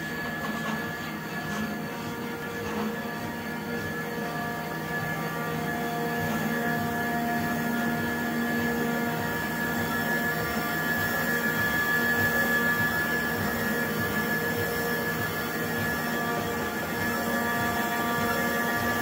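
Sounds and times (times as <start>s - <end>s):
printing press droning: 0.0s - 19.0s.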